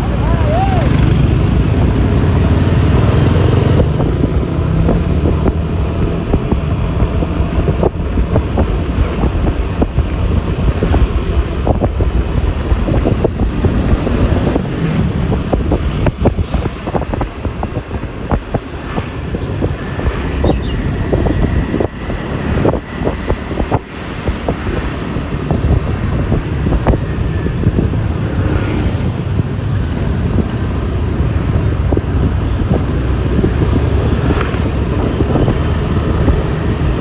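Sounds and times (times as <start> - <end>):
scooter ride rumble: 0.0 - 37.0
traffic: 0.0 - 37.0
wind buffeting microphone: 0.0 - 37.0.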